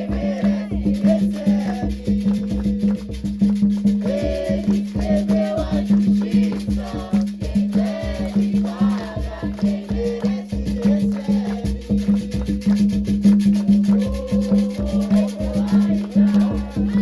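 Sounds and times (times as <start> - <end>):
hand drums fast rhythm: 0.0 - 17.0
rattles and shakers: 0.0 - 17.0
voices singing a chant: 0.0 - 17.0.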